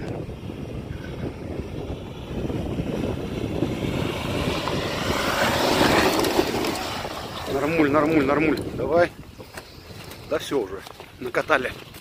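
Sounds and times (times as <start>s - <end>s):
vehicle engine under load: 0.0s - 12.0s.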